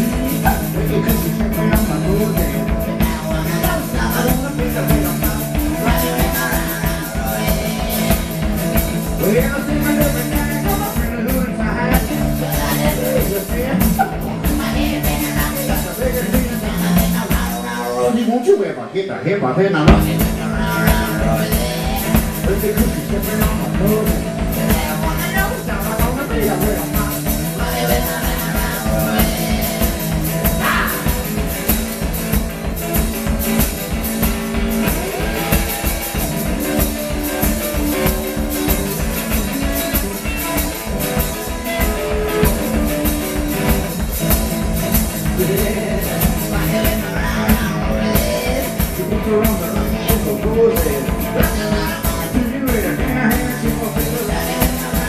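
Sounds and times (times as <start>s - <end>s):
bass drum beat: 0.0s - 18.3s, 19.8s - 55.0s
person singing: 0.0s - 18.9s, 19.6s - 55.0s
electric guitar strumming: 0.0s - 55.0s.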